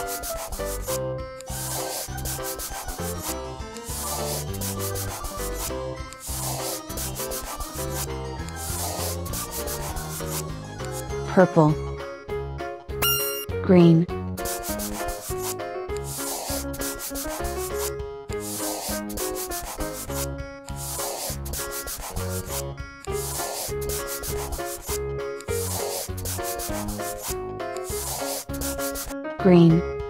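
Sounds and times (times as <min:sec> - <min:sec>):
marker scribbling on paper: 0:00.0 - 0:11.0, 0:13.0 - 0:13.4, 0:14.4 - 0:29.8
light children's music: 0:00.0 - 0:30.0.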